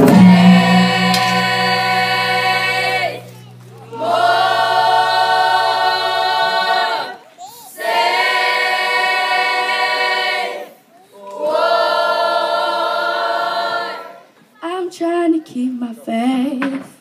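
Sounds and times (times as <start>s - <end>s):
children's choir singing: 0.0s - 14.4s.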